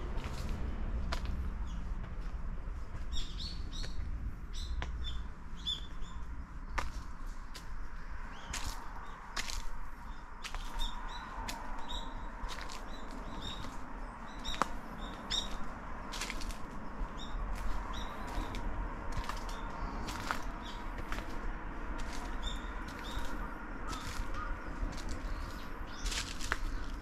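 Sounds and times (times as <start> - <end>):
small birds chirping: 1.6 - 2.0, 2.8 - 21.4, 22.0 - 27.0.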